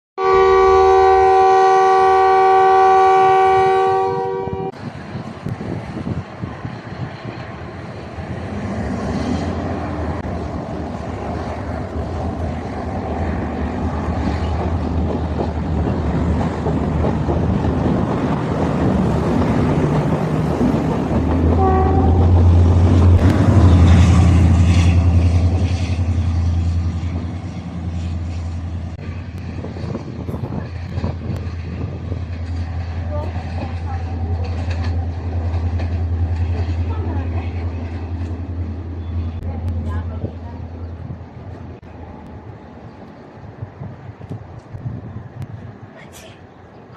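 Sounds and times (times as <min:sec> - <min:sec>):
diesel train engines droning: 0:00.2 - 0:46.9.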